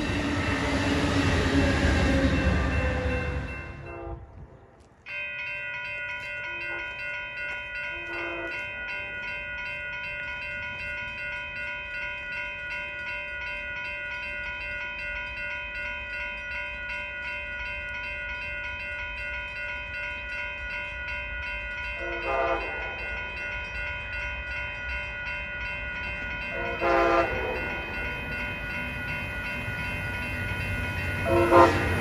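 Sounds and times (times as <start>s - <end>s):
crossing warning bell ringing: 0.0s - 4.4s, 5.0s - 32.0s
passing train: 0.0s - 32.0s.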